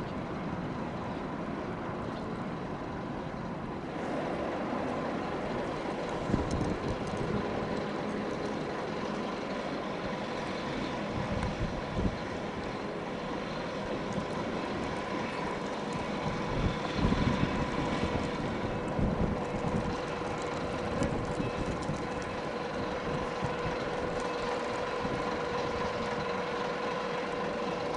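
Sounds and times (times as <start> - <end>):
ferry engine hum: 0.0 - 27.9
wind buffeting microphone: 3.6 - 27.9.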